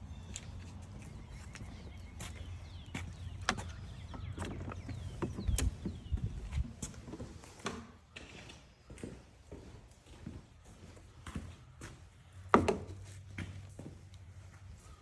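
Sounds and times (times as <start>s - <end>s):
footsteps on forest trail: 0.0s - 15.0s.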